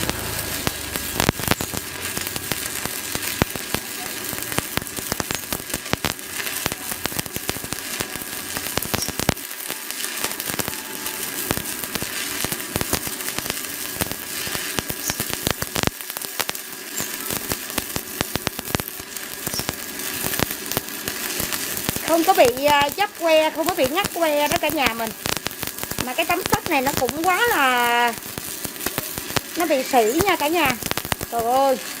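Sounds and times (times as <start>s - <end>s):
welding arc crackling and sizzling: 0.0s - 32.0s.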